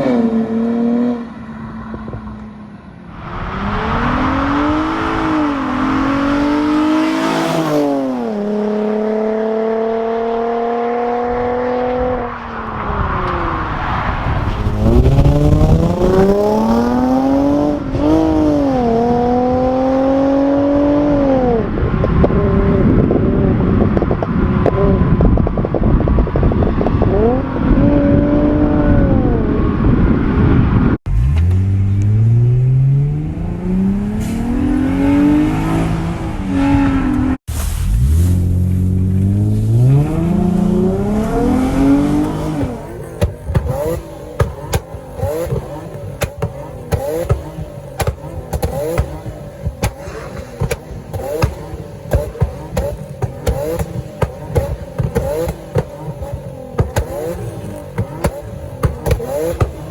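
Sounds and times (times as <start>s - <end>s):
car engine revving: 0.0s - 59.9s
exhaust crackling: 2.0s - 59.9s.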